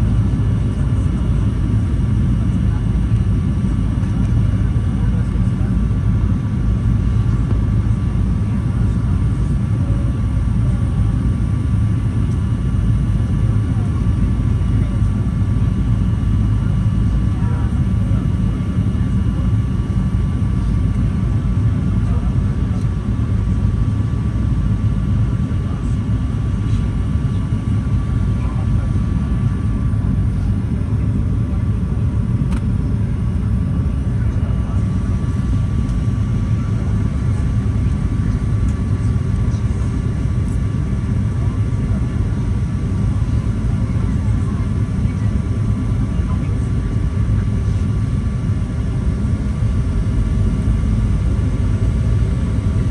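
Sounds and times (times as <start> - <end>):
jet engine rumble: 0.0 - 52.9.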